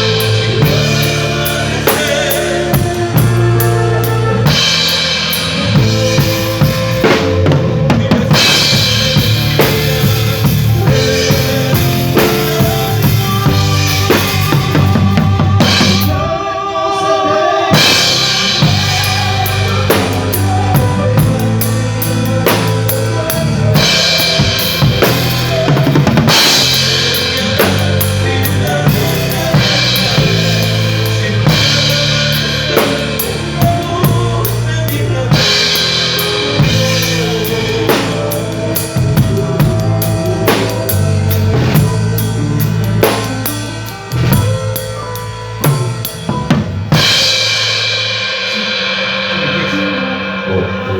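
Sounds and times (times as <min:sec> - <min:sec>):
drum kit beat: 0:00.0 - 0:50.9
held bass notes and chords: 0:00.0 - 0:50.9.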